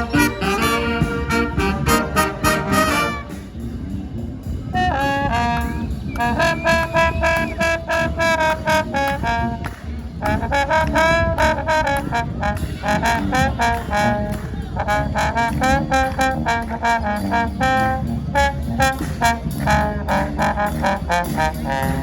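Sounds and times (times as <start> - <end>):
brass band playing: 0.0 - 22.0
steady low beat: 0.0 - 22.0.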